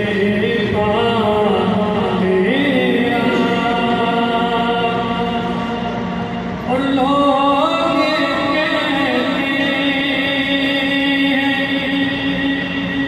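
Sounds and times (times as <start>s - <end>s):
man singing through loudspeaker: 0.0s - 13.0s.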